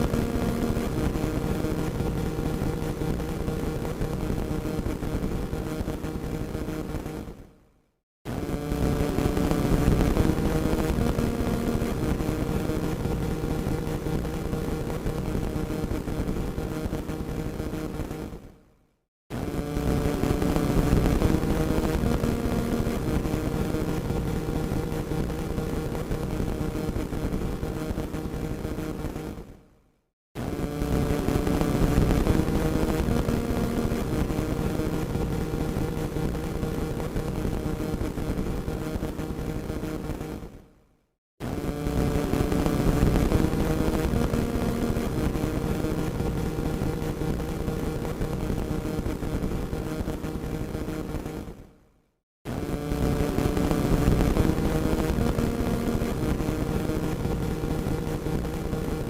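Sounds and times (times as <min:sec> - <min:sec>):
radio static hiss and crackle: 0:00.0 - 0:07.4, 0:08.3 - 0:18.5, 0:19.3 - 0:29.6, 0:30.4 - 0:40.5, 0:41.4 - 0:51.6, 0:52.5 - 0:59.0.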